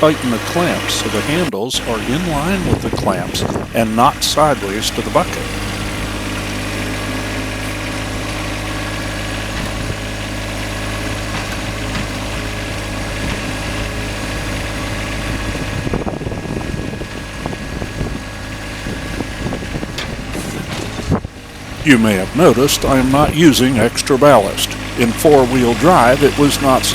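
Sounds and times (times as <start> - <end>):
diesel tractor engine running: 0.0 - 26.9.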